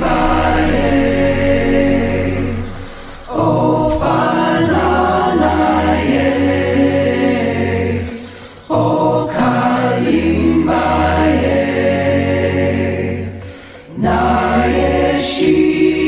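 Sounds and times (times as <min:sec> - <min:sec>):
steady low tone: 0:00.0 - 0:15.4
choir singing chant-like song: 0:00.0 - 0:16.0.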